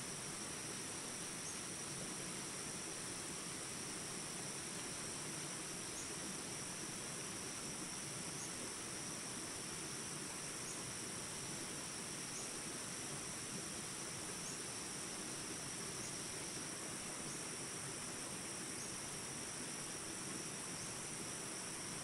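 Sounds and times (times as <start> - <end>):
crickets chirping: 0.0 - 22.0
flowing water: 0.1 - 22.0.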